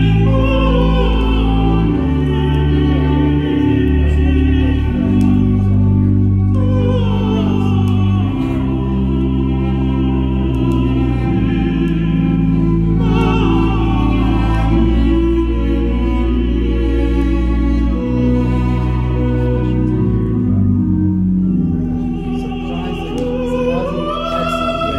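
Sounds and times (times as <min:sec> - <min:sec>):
slow music over loudspeakers: 0:00.0 - 0:24.9.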